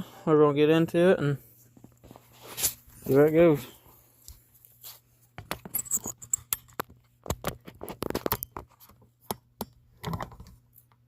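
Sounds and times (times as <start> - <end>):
objects being handled: 1.6 - 11.0.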